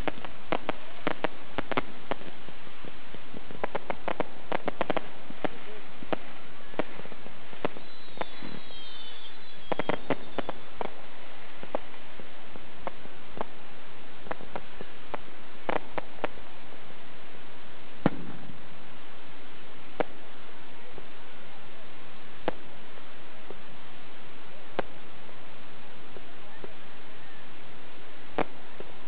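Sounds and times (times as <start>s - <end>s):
fireworks bangs and pops: 0.0s - 21.1s, 22.4s - 23.7s, 24.6s - 26.8s, 28.2s - 29.0s
steady hiss: 0.0s - 29.0s.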